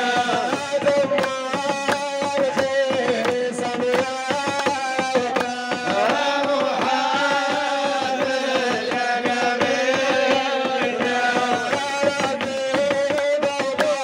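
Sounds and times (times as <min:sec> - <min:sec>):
men chanting into microphones: 0:00.0 - 0:14.0
rhythmic handclaps: 0:00.0 - 0:14.0.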